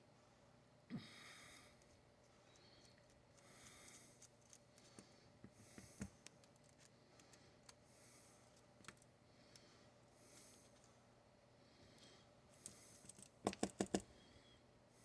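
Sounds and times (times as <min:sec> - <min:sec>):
soft breaths: 0:00.1 - 0:13.3.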